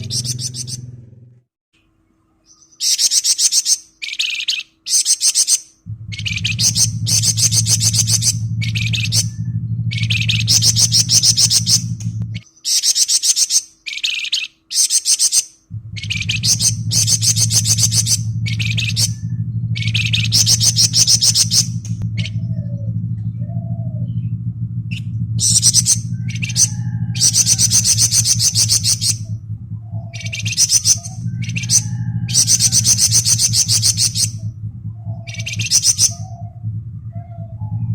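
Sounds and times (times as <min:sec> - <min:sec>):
songbird buzzy trilling: 0:00.0 - 0:01.3, 0:01.9 - 0:37.9
low steady hum: 0:00.0 - 0:05.0, 0:05.6 - 0:12.6, 0:15.5 - 0:37.9.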